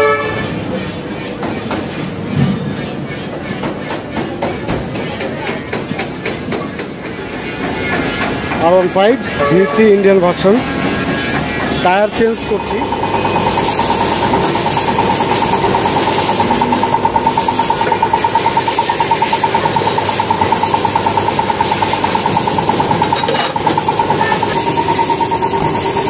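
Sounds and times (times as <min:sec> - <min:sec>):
workshop machinery pulsing hum: 0:00.0 - 0:26.0.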